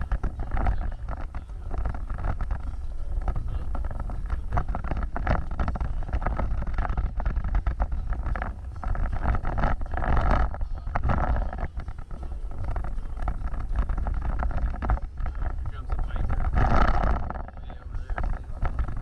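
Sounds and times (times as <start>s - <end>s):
off-road vehicle rumbling: 0.0s - 19.0s
wind on microphone: 0.0s - 19.0s.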